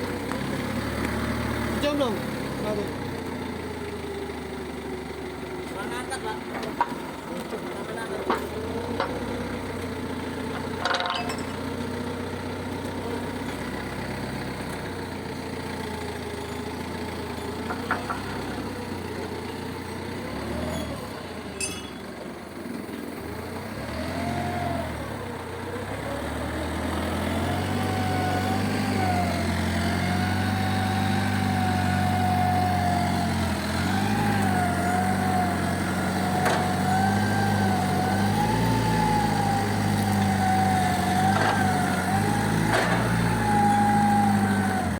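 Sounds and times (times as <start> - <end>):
heavy vehicle engine running: 0.0 - 44.9.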